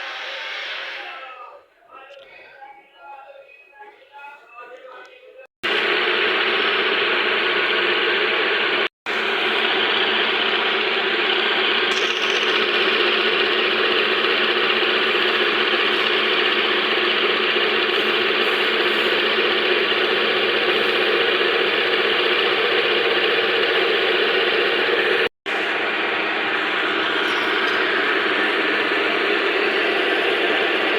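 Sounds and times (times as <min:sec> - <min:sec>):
workshop machine running: 0:05.6 - 0:30.9.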